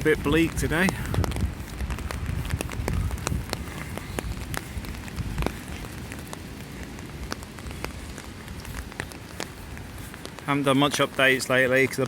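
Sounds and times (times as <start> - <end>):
low wind rumble: 0.0 - 12.0
rain falling: 0.0 - 12.0.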